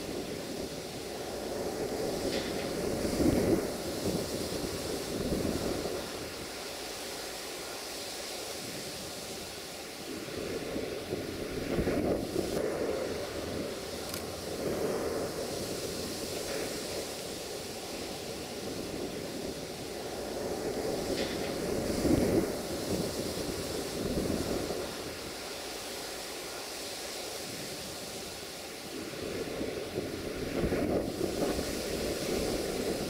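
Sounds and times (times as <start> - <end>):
wind buffeting microphone: 0.0 - 7.8, 8.6 - 25.5, 27.4 - 33.0.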